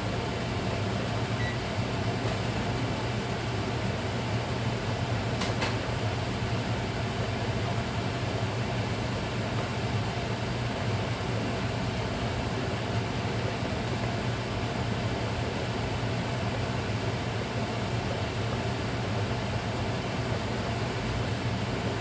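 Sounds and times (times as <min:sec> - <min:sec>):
vent fan humming: 0:00.0 - 0:22.0
water boiling in a pot: 0:00.1 - 0:22.0.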